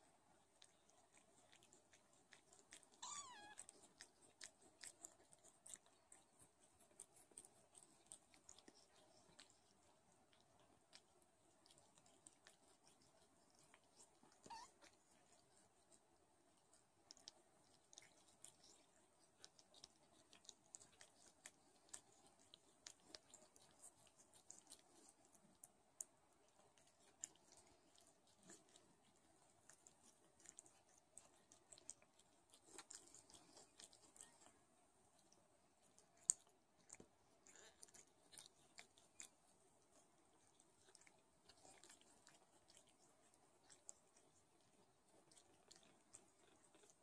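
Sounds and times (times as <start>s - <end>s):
cat licking kittens: 0.0s - 47.0s.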